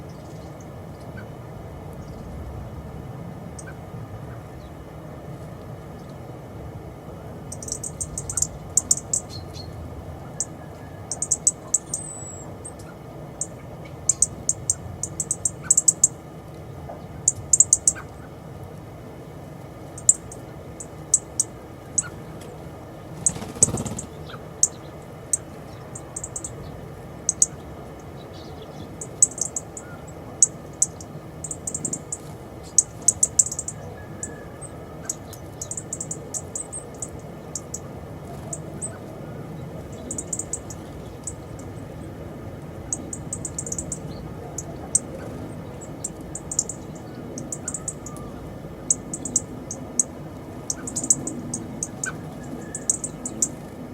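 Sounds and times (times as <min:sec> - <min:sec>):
small birds chirping: 0:00.0 - 0:02.4, 0:07.3 - 0:53.9.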